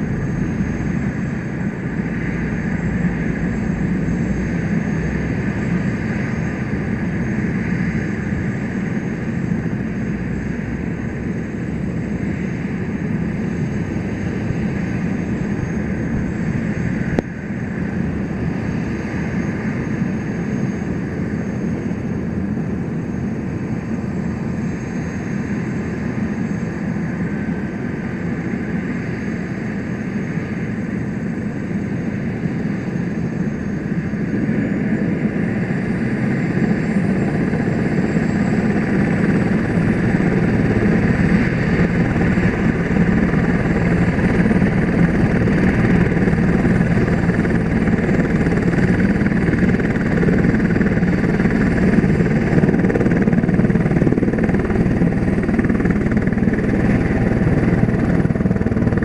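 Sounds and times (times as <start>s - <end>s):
helicopter turbine whine: 0.0s - 59.0s.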